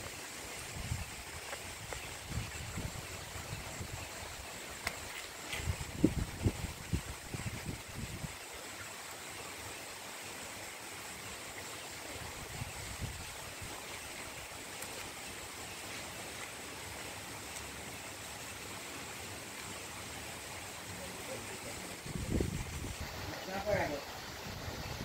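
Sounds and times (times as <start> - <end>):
waterfall and stream rushing: 0.0 - 25.0.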